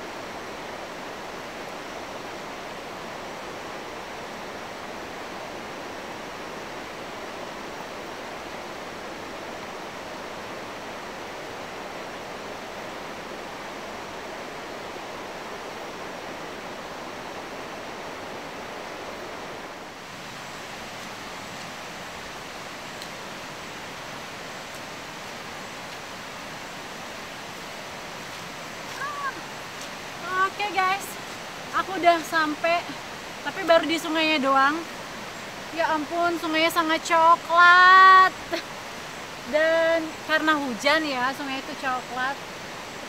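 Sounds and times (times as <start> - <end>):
water rushing: 0.0 - 43.0.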